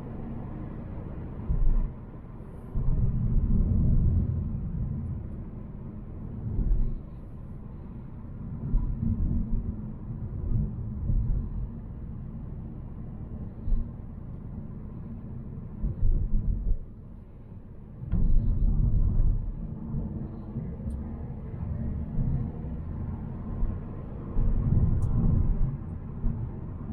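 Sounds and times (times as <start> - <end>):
car engine and road rumble: 0.0 - 26.9.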